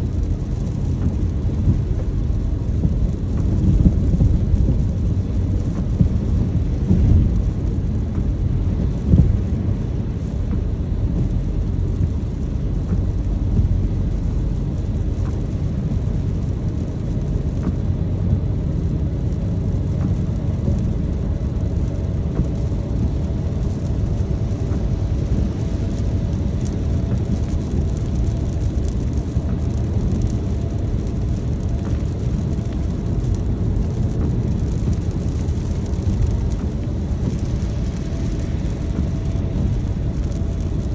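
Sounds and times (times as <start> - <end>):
light rain ticking: 0.0 - 40.9
road and engine rumble: 0.0 - 40.9.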